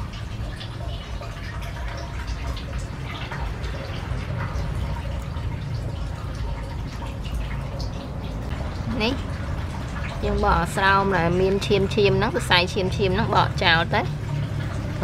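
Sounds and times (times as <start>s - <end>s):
soft wet ticks: 0.0s - 14.9s
water dripping in steel basin: 0.0s - 15.0s.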